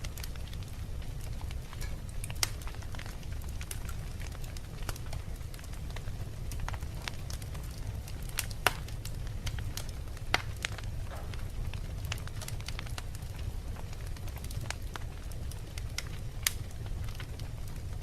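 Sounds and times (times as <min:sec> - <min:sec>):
flames rumbling: 0:00.0 - 0:18.0
logs crackling in fire: 0:00.0 - 0:18.0
sharp pops from fire: 0:00.0 - 0:18.0.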